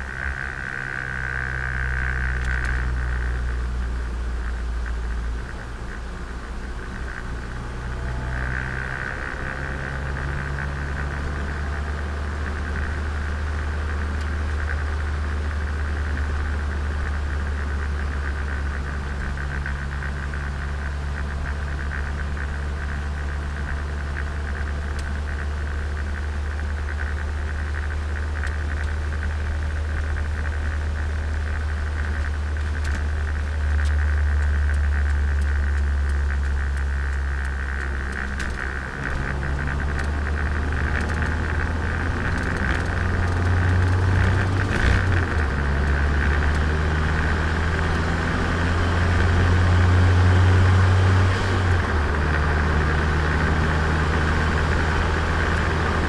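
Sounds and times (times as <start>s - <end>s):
car engine and exhaust droning: 0.0s - 56.0s.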